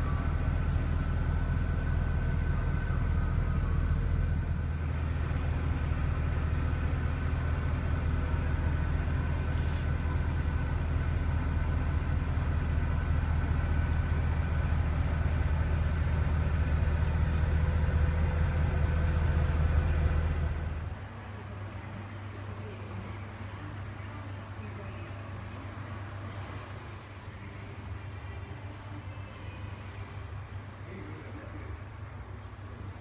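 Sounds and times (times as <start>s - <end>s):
car engine idling: 0.0s - 28.1s.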